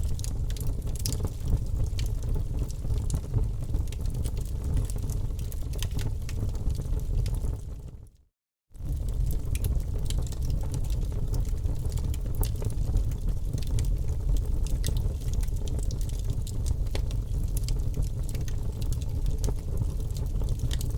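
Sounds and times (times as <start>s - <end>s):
wood fire crackling: 0.0s - 8.0s, 8.8s - 20.9s
low rumble of flames: 0.0s - 8.1s, 8.8s - 20.9s.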